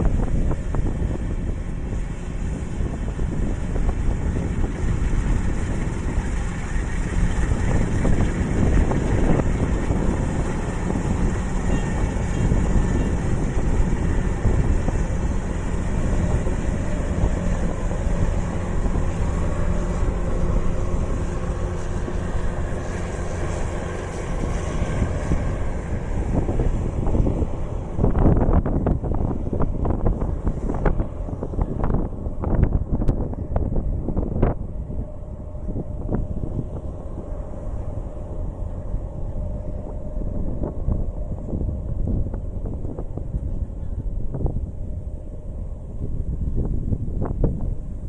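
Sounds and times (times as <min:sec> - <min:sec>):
diesel engine running: 0:00.0 - 0:48.0
wind buffeting microphone: 0:00.0 - 0:48.0.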